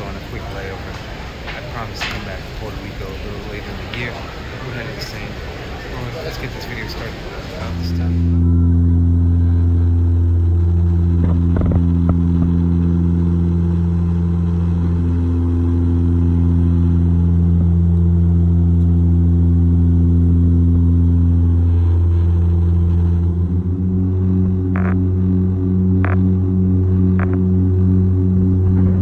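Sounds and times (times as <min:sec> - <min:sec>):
propeller engine drone in cabin: 0:00.0 - 0:29.0.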